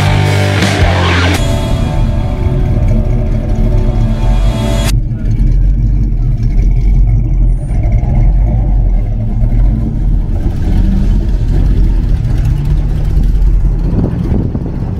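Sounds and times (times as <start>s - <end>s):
car engine rumbling: 0.0s - 14.9s.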